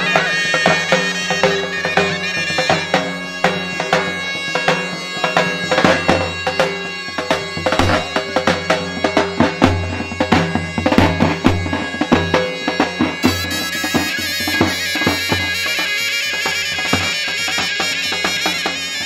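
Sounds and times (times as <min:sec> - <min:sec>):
large drum beats: 0:00.0 - 0:18.8
zurnas playing folk dance tune: 0:00.0 - 0:19.0.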